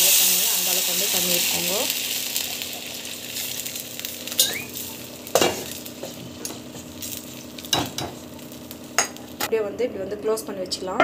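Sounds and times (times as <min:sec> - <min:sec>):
water sizzling in hot oil: 0:00.0 - 0:09.5.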